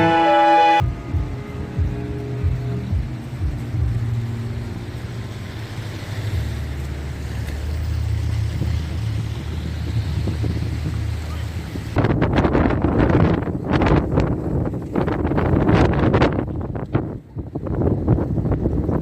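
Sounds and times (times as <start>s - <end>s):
street noise hiss: 0.0s - 18.9s
vehicle engine rumble: 0.8s - 19.0s.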